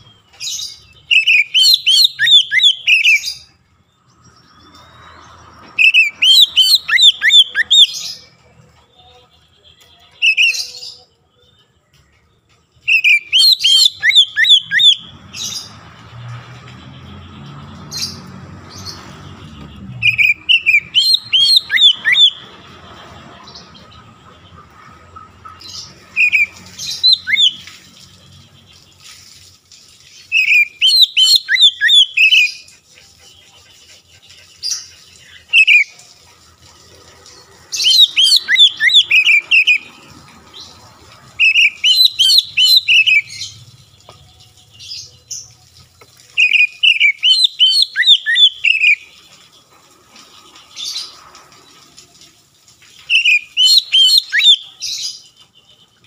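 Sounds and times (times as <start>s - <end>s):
bird song with whistled notes: 0.0s - 22.6s, 25.6s - 29.2s, 30.1s - 36.0s, 37.7s - 40.0s, 41.3s - 49.6s, 52.9s - 56.0s.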